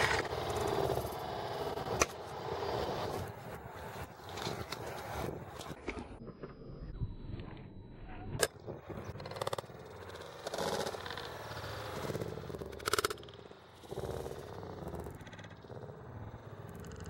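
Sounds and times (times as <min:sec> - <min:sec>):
scooter wheels rattling and scraping: 0:00.0 - 0:06.4, 0:08.4 - 0:17.0.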